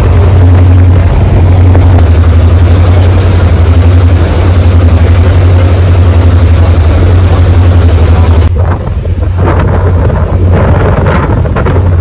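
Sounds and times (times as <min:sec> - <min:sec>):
churning wake: 0:00.0 - 0:12.0
ferry engine droning: 0:00.0 - 0:12.0
wind on microphone: 0:00.0 - 0:12.0.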